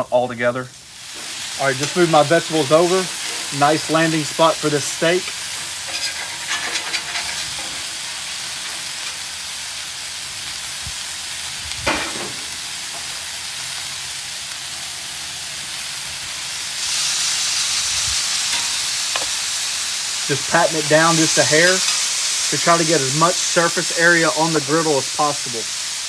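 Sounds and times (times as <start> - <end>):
food sizzling on griddle: 0.0 - 26.0.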